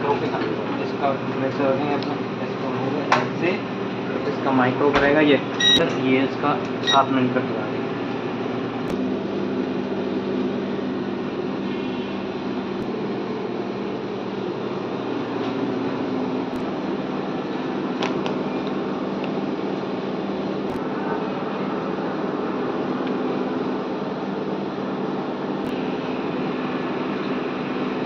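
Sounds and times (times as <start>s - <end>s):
electric fan hum: 0.0s - 28.0s.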